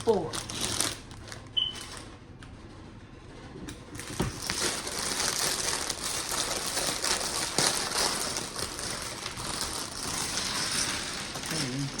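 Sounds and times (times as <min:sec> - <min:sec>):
plastic bags crinkling: 0:00.0 - 0:02.1, 0:04.0 - 0:12.0.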